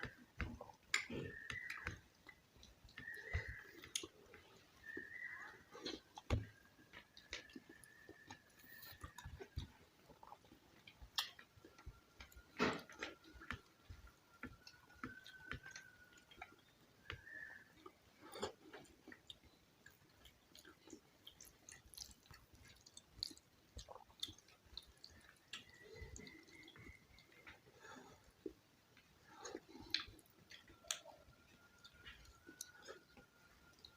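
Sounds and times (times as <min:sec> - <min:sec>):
soft chewing: 0:00.0 - 0:33.9.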